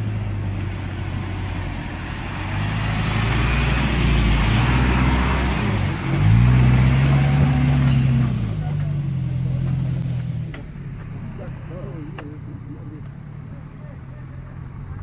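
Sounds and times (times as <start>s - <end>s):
heavy truck engine revving: 0.0s - 15.0s.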